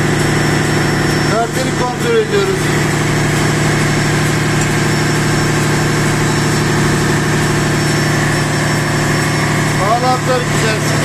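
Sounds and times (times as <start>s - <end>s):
engine-room machinery hum: 0.0s - 11.0s.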